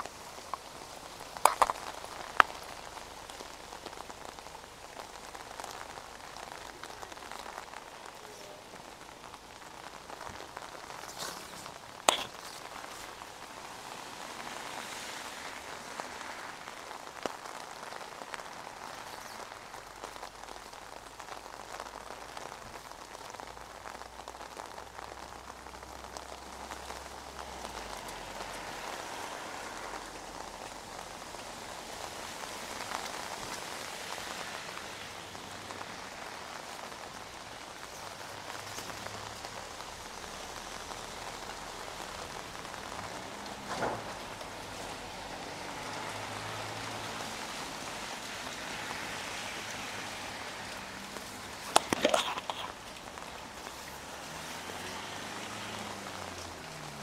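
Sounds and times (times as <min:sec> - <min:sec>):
rain on wet paving: 0:00.0 - 0:57.0.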